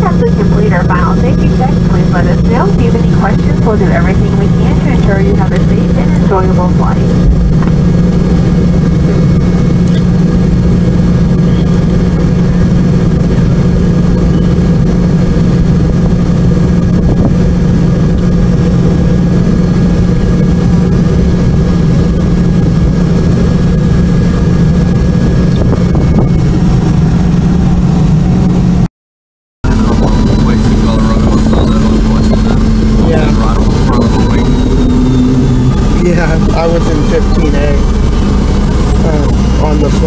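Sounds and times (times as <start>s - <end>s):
jet engine cabin roar: 0.0s - 28.9s, 29.6s - 40.0s.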